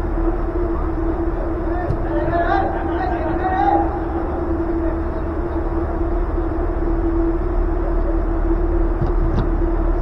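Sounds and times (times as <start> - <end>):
blowers humming and rumbling: 0.0 - 10.0.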